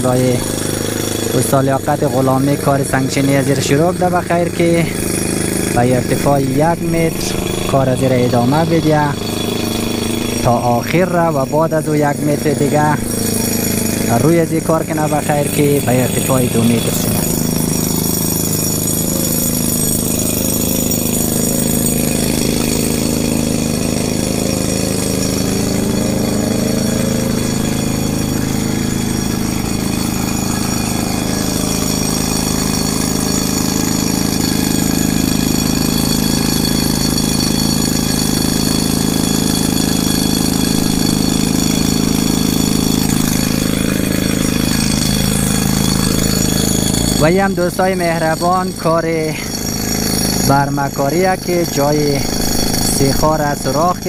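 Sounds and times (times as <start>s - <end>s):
construction engine running: 0.0s - 54.0s.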